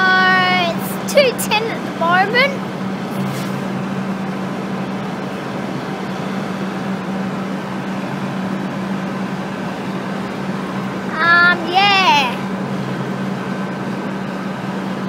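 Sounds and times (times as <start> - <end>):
trains droning at platform: 0.0 - 15.0.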